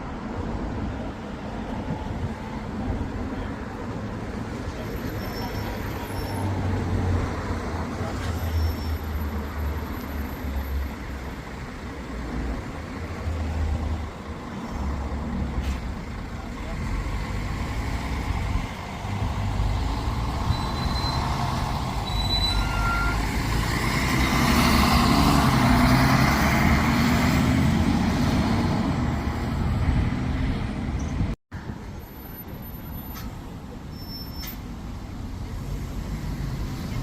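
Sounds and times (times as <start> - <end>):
diesel bus passing: 0.0 - 37.0.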